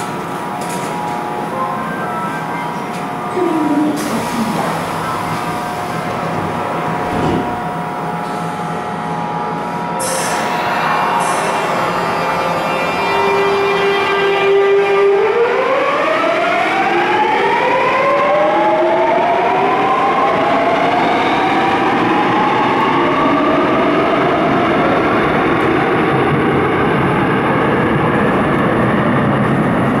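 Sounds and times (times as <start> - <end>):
rumble of train cars: 0.0 - 30.0.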